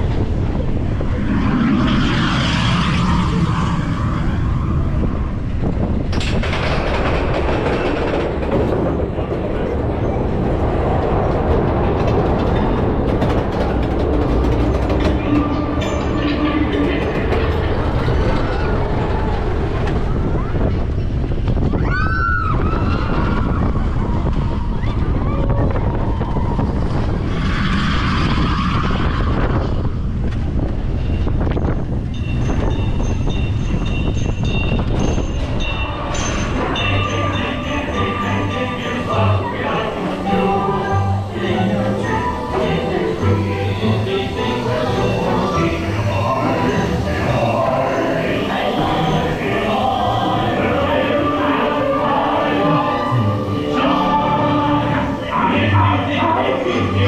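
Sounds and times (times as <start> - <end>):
roller coaster cars rumbling: 0.0 - 57.0.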